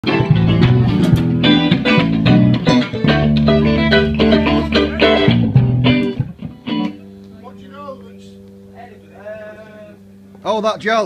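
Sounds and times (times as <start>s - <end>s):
bass guitar: 0.0s - 11.0s
electric guitar: 0.0s - 11.0s.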